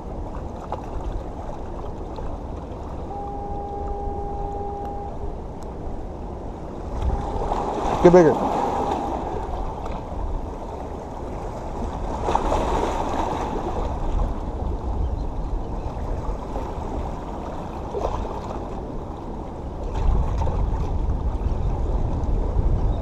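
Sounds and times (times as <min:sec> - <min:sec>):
seawater sloshing among rocks: 0:00.0 - 0:05.2, 0:06.3 - 0:22.3
wind rumble on microphone: 0:00.0 - 0:23.0.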